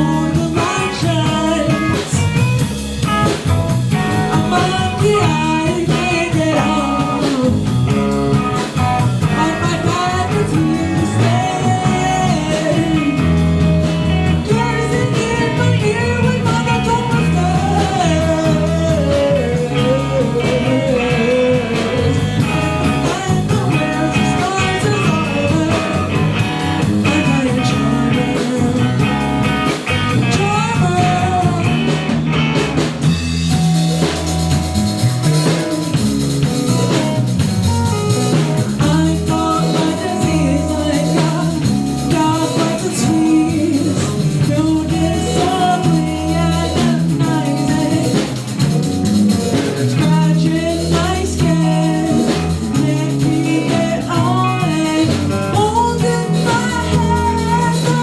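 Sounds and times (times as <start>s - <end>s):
gliding lead guitar: 0.0s - 58.0s
rock band playing: 0.0s - 58.0s.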